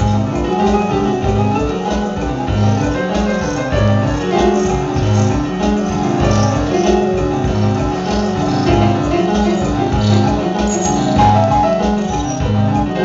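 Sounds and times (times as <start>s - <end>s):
drums: 0.0s - 13.0s
electric keyboard low figure: 0.0s - 13.0s
high piano-like notes: 0.0s - 13.0s.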